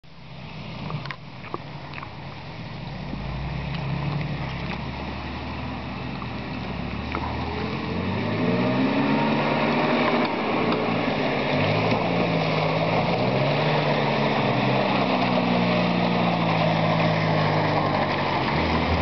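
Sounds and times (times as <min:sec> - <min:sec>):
off-road vehicle engine: 0:00.0 - 0:19.0.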